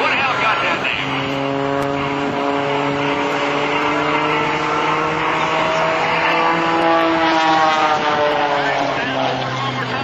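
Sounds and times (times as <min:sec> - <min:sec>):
propeller plane engine droning: 0:00.0 - 0:10.0.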